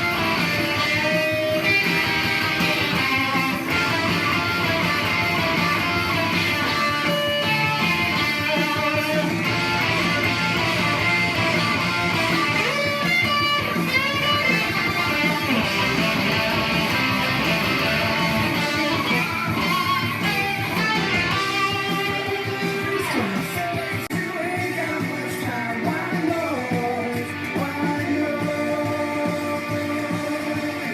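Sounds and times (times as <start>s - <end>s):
electric guitar rock solo: 0.0s - 30.9s
rock band playing: 0.0s - 30.9s.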